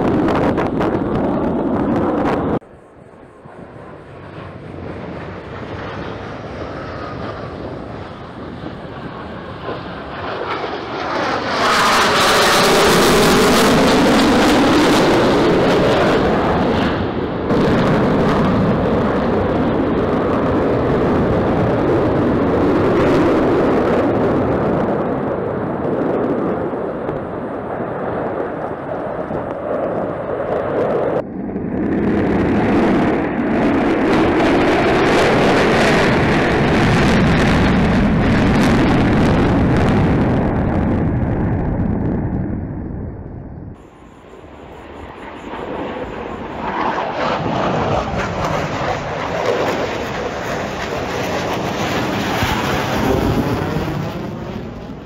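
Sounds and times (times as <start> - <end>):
jet roar flying past: 0.0 - 55.0.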